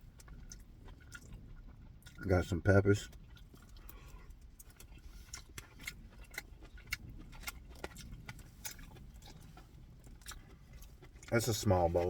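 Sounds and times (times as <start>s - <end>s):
low steady rumble: 0.0s - 12.0s
mouth clicks and smacks chewing: 0.0s - 12.0s.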